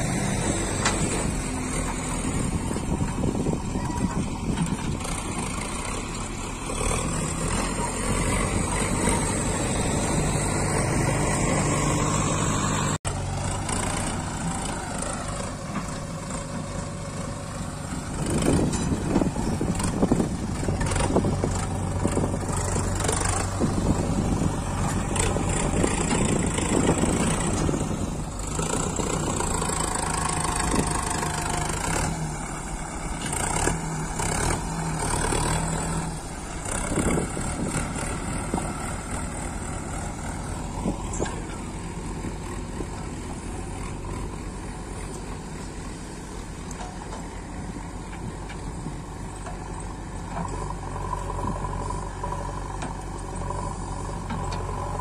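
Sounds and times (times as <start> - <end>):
blade dragging soil: 0.0 - 55.0
diesel engines running: 0.0 - 55.0.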